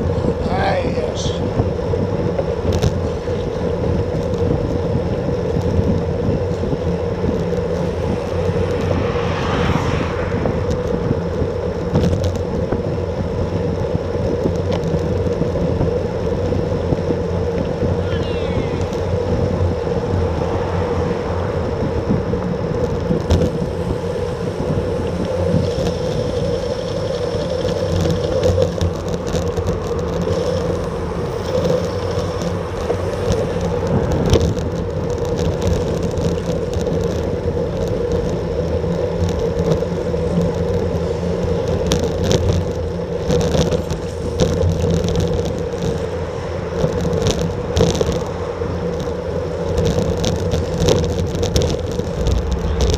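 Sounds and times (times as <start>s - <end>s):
bicycle clicks and rattles: 0.0s - 9.7s, 10.6s - 52.9s
bicycle tyres and drivetrain whir: 0.0s - 52.9s
road and wind noise: 0.0s - 52.9s.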